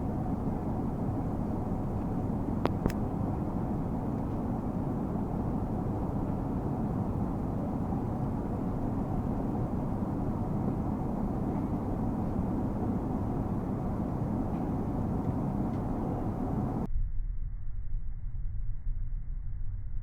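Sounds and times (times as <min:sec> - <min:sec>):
aircraft cabin engine rumble: 0:00.0 - 0:16.9.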